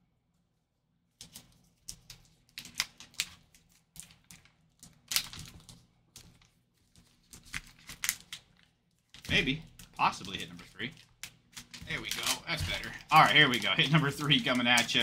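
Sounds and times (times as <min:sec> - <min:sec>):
stiff plastic pouch crinkling: 0:02.3 - 0:15.0.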